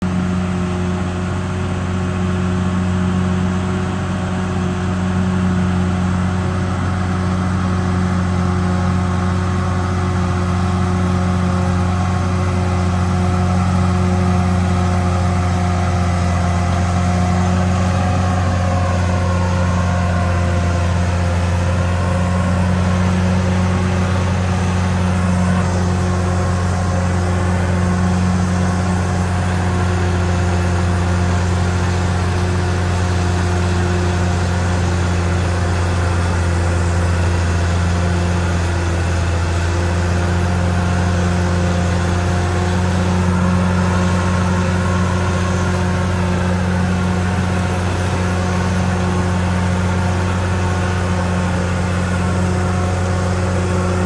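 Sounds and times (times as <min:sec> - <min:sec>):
bulldozer diesel engine humming: 0:00.0 - 0:54.0
constant engine whine: 0:00.0 - 0:54.0.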